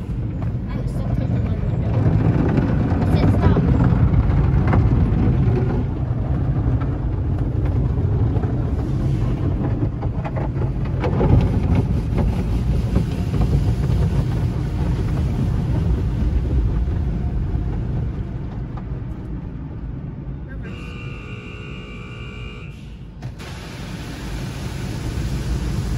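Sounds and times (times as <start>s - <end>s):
car wash water spray rumble: 0.0s - 20.1s, 21.2s - 25.9s.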